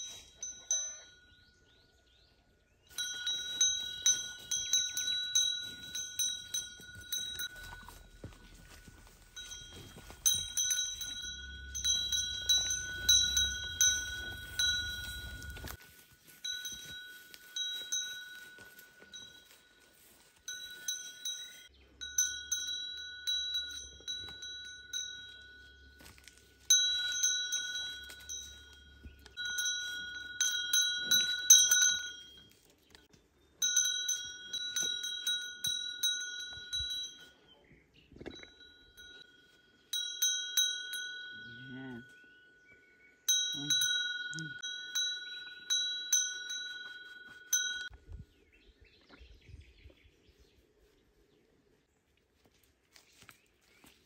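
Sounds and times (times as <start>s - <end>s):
cow bell ringing: 0.0s - 48.3s.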